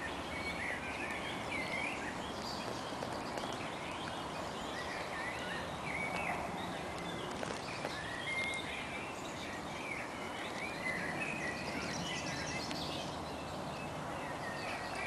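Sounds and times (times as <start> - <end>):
songbirds chirping: 0.0 - 15.0
steady background hiss: 0.0 - 15.0.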